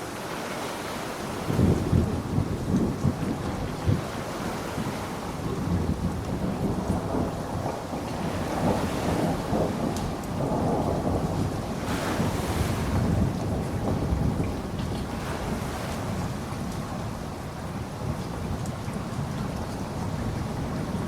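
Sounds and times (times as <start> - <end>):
steady rain: 0.0 - 21.0
thunder rumbling low: 1.4 - 21.0.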